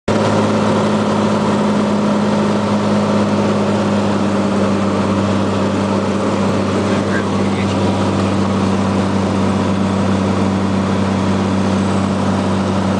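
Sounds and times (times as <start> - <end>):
propeller aircraft engine drone: 0.1 - 12.9.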